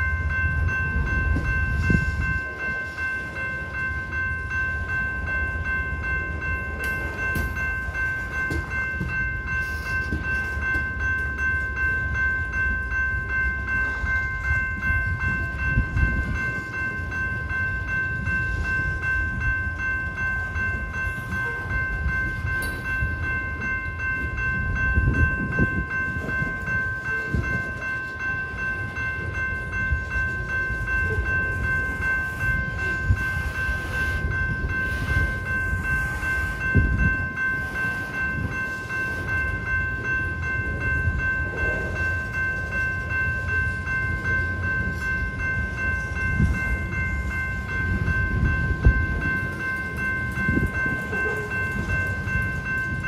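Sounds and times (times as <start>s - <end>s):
crossing bell ringing: 0.0s - 53.0s
train wheels rumbling on rails: 0.0s - 53.0s.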